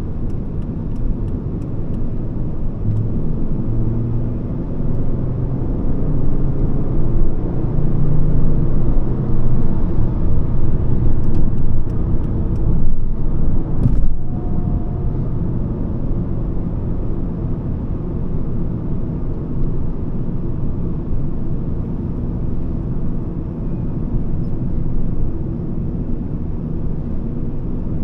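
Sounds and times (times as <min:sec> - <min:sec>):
car engine rumbling: 0:00.0 - 0:28.0
road noise: 0:00.0 - 0:28.0.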